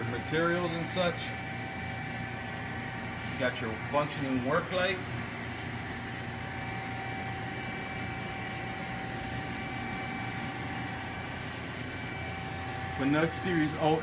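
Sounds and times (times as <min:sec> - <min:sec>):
machine hum: 0:00.0 - 0:14.0
thin steady whine: 0:00.0 - 0:14.0.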